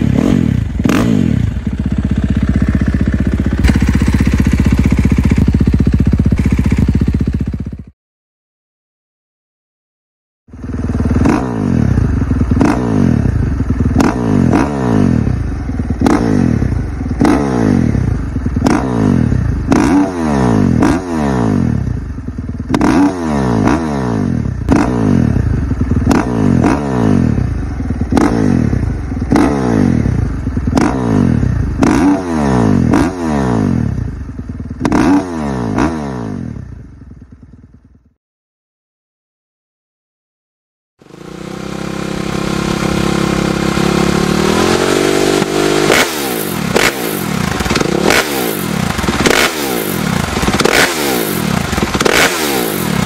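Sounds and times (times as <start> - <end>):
dirt bike engine revving: 0.0 - 7.8, 10.5 - 36.6, 41.0 - 53.0.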